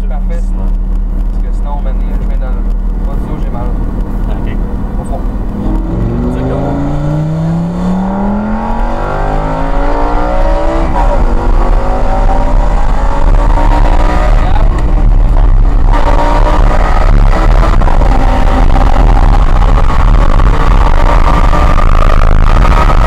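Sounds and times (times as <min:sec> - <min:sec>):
car engine accelerating hard: 0:00.0 - 0:23.0
constant low rumble: 0:00.0 - 0:23.0.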